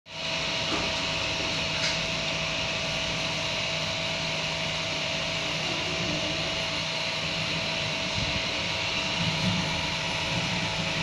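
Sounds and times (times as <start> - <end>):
three d printer whirring: 0.1 - 11.0.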